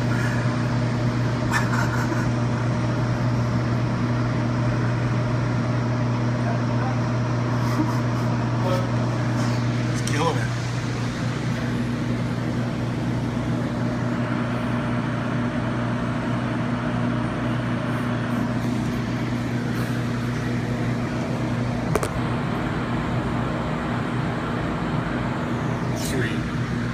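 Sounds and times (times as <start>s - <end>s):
mechanical hum with low drone: 0.0s - 26.9s.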